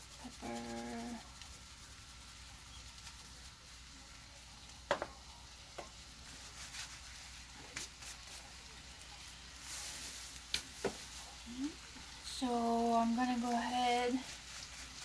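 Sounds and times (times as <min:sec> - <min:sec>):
fish sizzling in a pan: 0:00.0 - 0:15.0.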